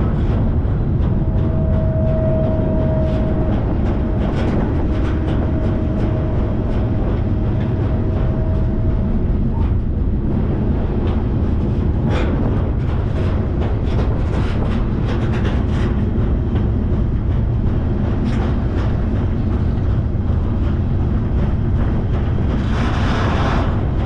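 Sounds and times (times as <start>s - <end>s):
steady whining tone: 0.0s - 23.0s
clicks and knocks from train cars: 0.0s - 24.0s
freight train rumble: 0.0s - 24.0s.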